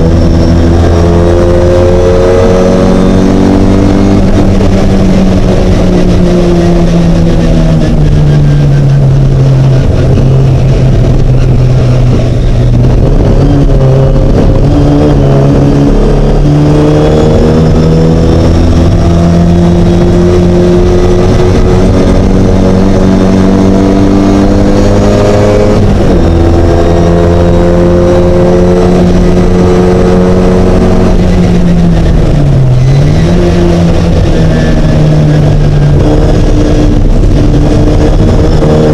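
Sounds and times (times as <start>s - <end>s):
race car engine running hard: 0.0s - 38.9s.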